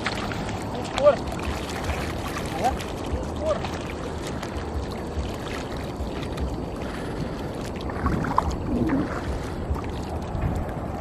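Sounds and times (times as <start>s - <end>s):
water sloshing and splashing: 0.0s - 11.0s
wind rumble on microphone: 0.0s - 11.0s.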